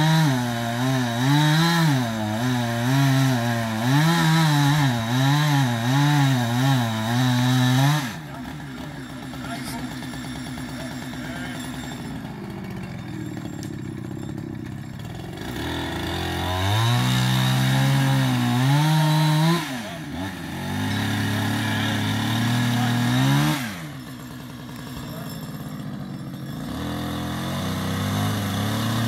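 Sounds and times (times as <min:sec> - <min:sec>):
chainsaw idling and revving: 0:00.0 - 0:29.0.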